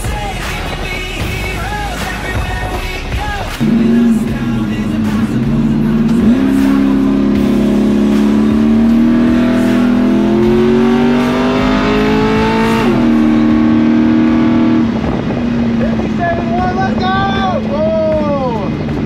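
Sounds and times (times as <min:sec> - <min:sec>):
truck engine accelerating: 0:00.0 - 0:19.0.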